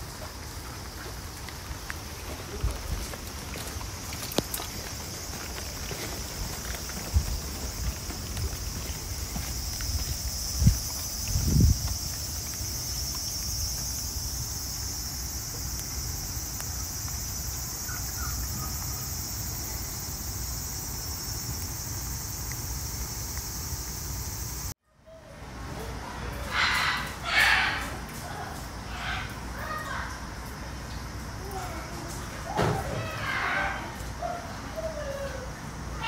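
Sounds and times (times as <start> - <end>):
cicadas droning: 0.0 - 36.0.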